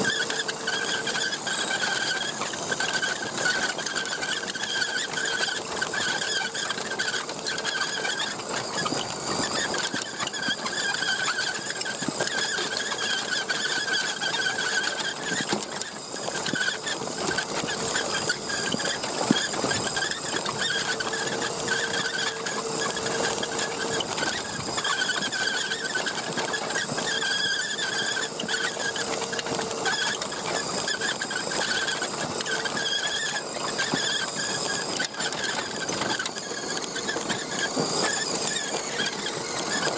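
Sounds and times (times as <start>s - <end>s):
toy truck electric motor whining: 0.0s - 39.9s.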